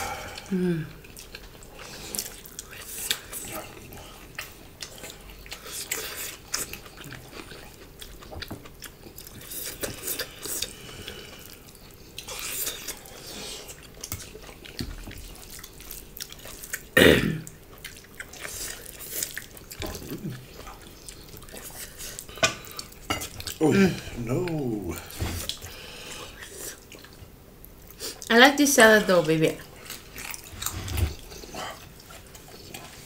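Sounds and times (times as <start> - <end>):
wet chewing and lip-smacking: 0.3 - 23.6, 24.4 - 28.3, 29.6 - 33.0.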